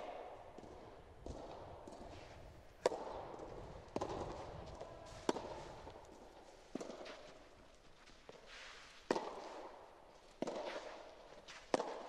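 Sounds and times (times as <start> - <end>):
rackets hitting tennis ball: 0.0 - 7.5, 8.3 - 12.0.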